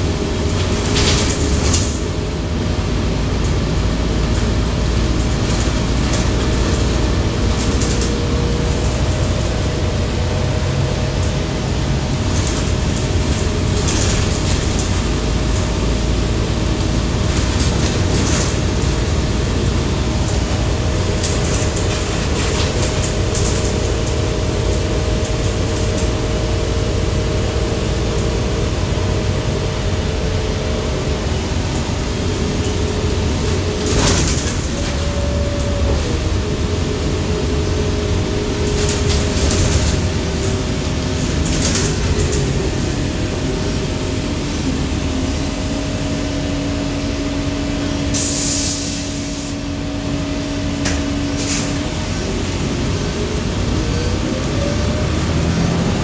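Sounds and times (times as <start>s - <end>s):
bus engine and road rumble: 0.0s - 56.0s
drivetrain whine: 0.0s - 56.0s.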